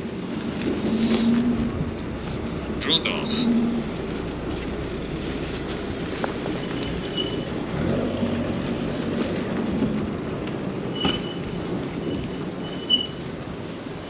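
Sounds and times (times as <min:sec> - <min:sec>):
bike tyre and wind rumble: 0:00.0 - 0:14.0.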